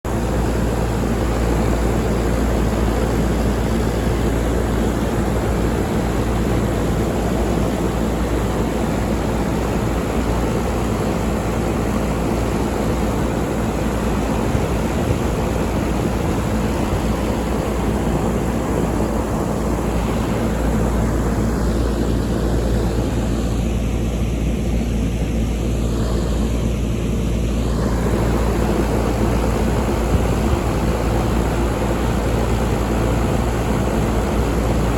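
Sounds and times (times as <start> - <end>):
air conditioner fan whoosh: 0.1 - 34.9
low electrical hum: 0.1 - 34.9.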